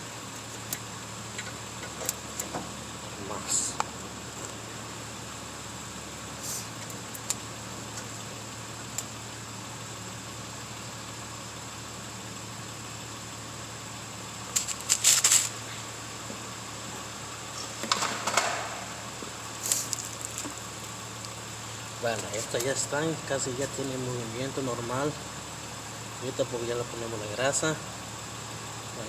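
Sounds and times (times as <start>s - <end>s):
background hum: 0.0s - 29.0s.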